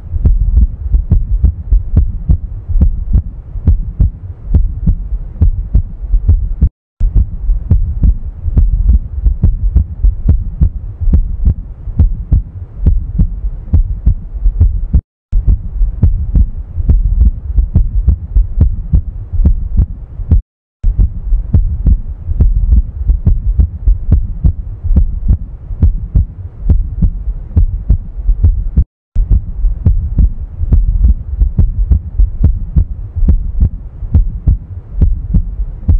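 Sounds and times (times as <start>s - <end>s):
heart beating: 0.0s - 35.9s.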